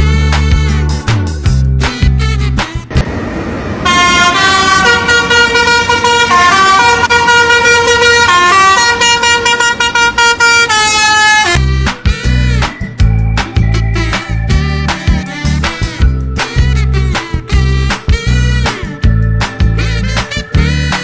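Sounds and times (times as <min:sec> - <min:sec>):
vehicle horn playing a tune: 0:00.0 - 0:01.0, 0:01.9 - 0:02.9, 0:03.8 - 0:12.8, 0:13.8 - 0:19.0, 0:19.8 - 0:21.0
engine rumbling: 0:00.0 - 0:21.0.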